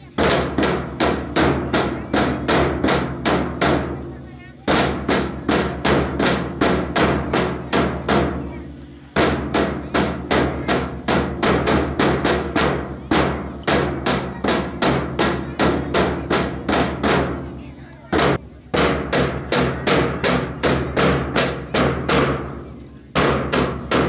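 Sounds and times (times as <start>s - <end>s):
percussion drill rhythm: 0.0s - 24.0s.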